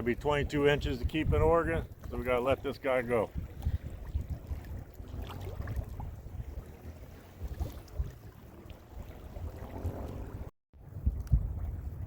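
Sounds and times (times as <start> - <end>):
water lapping around kayak: 0.0 - 12.0
wind buffeting microphone: 0.0 - 12.0.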